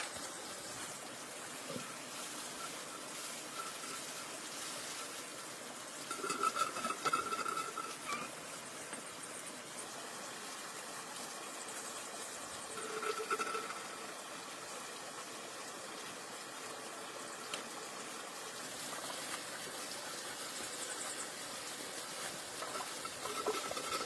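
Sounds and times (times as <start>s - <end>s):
watery hiss: 0.0s - 24.0s.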